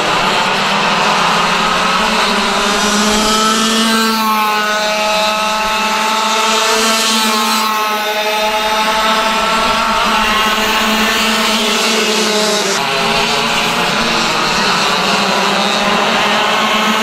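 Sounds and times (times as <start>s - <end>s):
racing kart engines revving: 0.0s - 17.0s.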